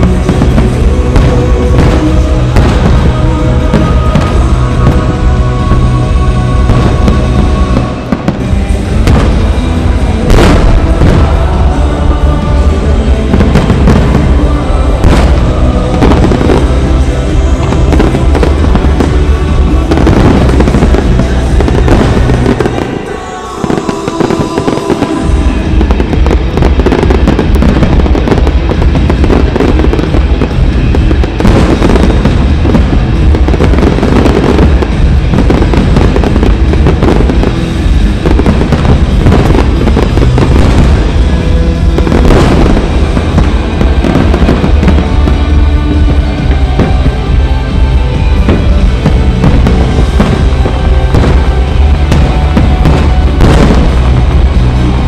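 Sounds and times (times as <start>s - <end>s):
deep fireworks booming: 0.0s - 55.0s
fireworks bursting and crackling: 0.0s - 55.0s
show music: 0.0s - 55.0s.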